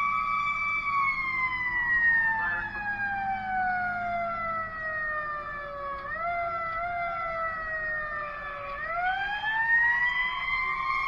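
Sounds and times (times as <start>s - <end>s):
fire truck siren: 0.0s - 11.0s.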